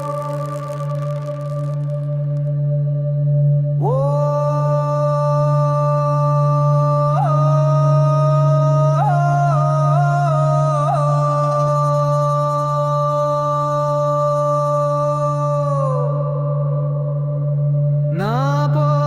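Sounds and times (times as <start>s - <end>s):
steady low drone: 0.0s - 19.0s
wordless chant-like vocal note: 0.0s - 19.0s.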